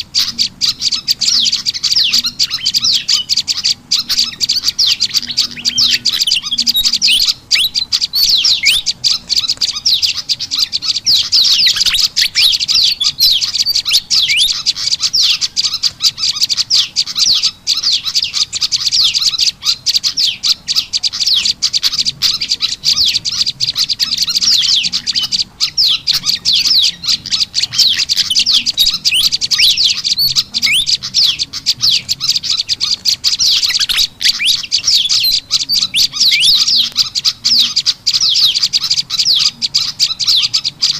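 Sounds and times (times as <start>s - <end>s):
high-pitched bird chirping: 0.0s - 40.9s.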